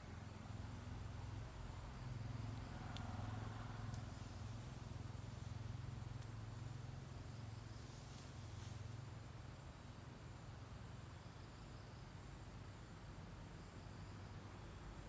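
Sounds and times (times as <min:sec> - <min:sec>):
insect trill: 0:00.1 - 0:15.0.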